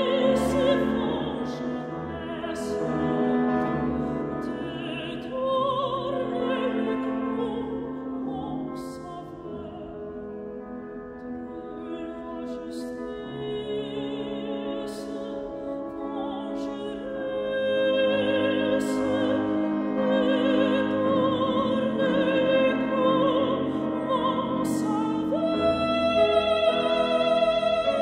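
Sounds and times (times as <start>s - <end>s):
piano accompaniment: 0.0s - 28.0s
woman singing opera: 0.0s - 28.0s.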